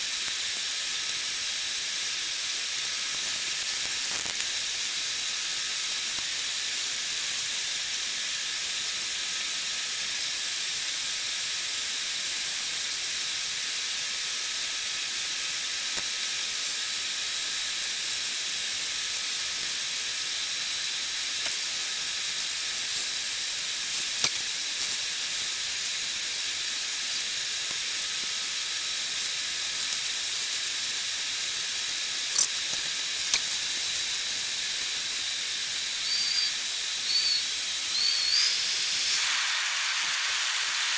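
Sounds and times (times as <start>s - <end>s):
faint steady whine: 0.0s - 40.9s.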